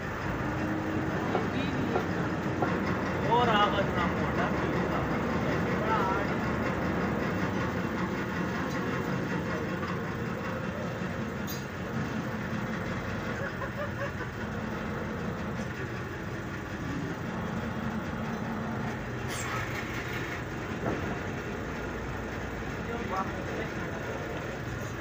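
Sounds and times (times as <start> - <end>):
hydraulic press humming: 0.0 - 25.0.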